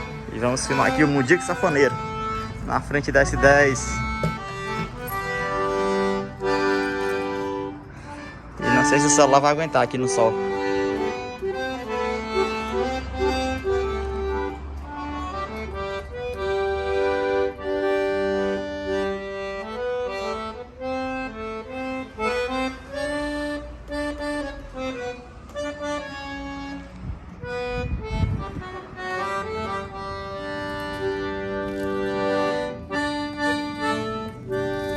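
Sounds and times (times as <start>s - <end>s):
accordion melody: 0.0s - 34.9s.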